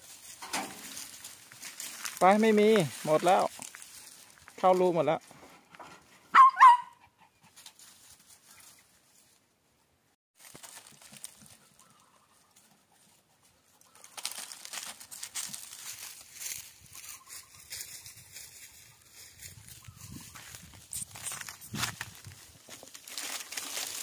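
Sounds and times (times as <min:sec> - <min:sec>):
crackling and rustling undergrowth: 0:00.0 - 0:06.3, 0:07.4 - 0:09.6, 0:10.4 - 0:24.0.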